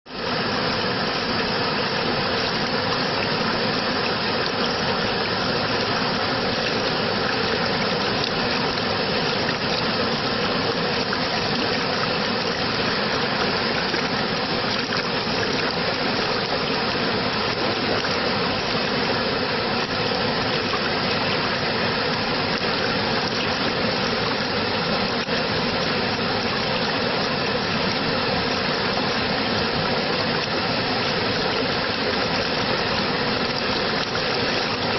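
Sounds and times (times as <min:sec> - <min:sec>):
rushing water: 0:00.1 - 0:34.9.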